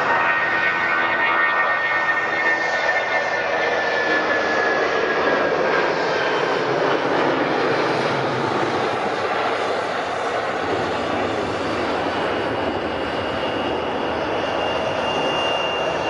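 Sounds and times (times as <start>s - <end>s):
jet engines roaring at takeoff: 0.0s - 16.0s.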